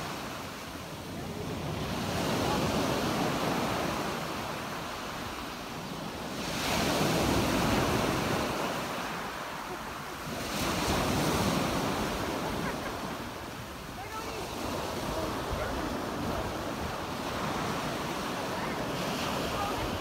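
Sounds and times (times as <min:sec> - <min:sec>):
small waves breaking on beach: 0:00.0 - 0:20.0.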